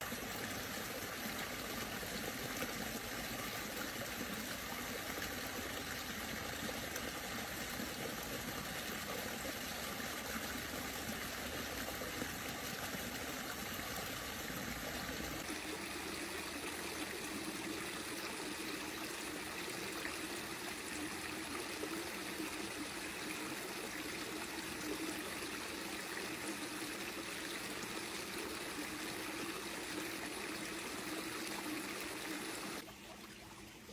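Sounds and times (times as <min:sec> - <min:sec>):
creek water trickling: 0:00.0 - 0:33.9.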